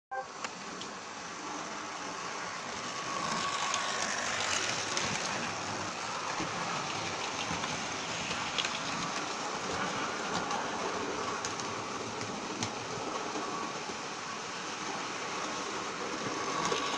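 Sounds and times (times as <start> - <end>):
wheels clicking on rails: 0.4 - 16.9
model train running: 0.5 - 16.9.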